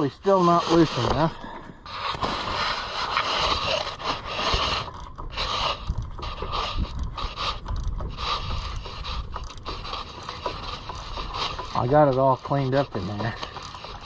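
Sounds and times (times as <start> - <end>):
engine creaking and scraping: 0.0 - 14.0.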